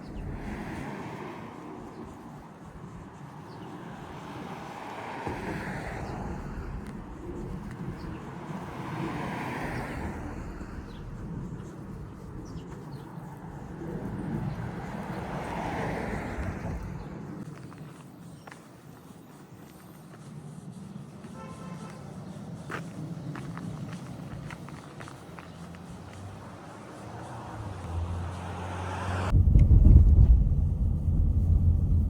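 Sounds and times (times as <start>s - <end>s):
cars passing: 0.0s - 32.0s
steady traffic noise: 0.0s - 32.0s.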